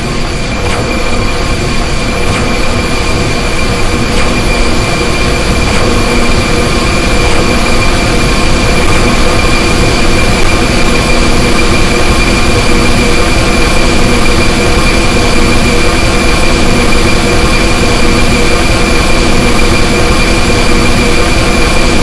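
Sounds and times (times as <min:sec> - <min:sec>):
harsh laser drone: 0:00.0 - 0:22.0.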